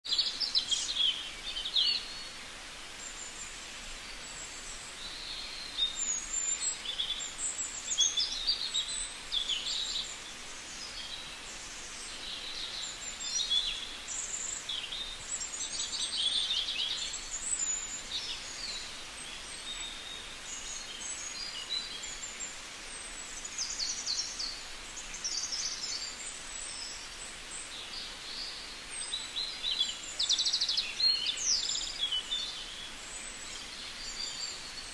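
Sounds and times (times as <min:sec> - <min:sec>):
small birds chirping and trilling: 0:00.0 - 0:34.9
steady background hiss: 0:00.1 - 0:34.9.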